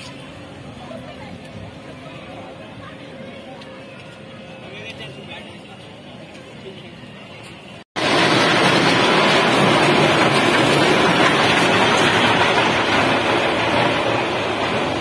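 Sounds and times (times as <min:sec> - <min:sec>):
roller coaster wheels rumbling on rail: 0:00.0 - 0:15.0.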